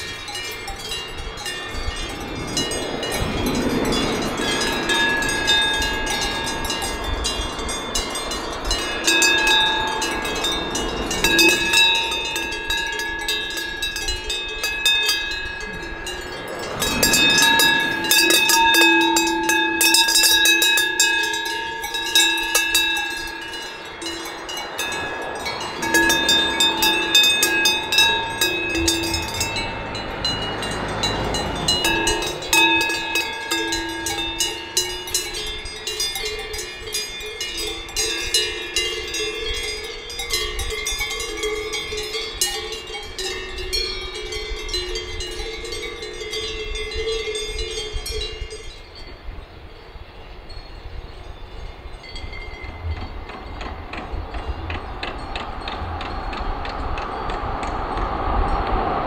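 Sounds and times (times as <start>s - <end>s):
cowbells clanking and ringing: 0.0s - 59.0s.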